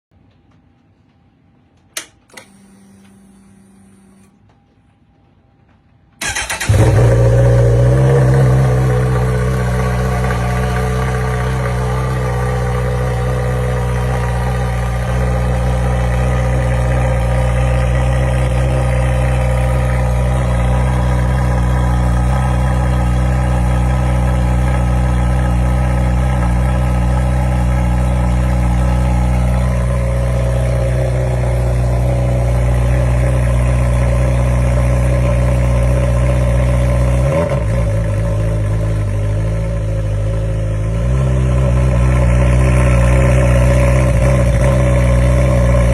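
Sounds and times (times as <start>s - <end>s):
motorcycle engine idling: 6.2s - 45.9s.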